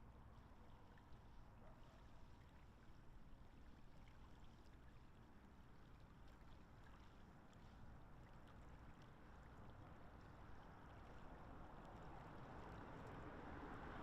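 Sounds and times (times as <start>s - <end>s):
lakeside water wash: 0.0s - 14.0s.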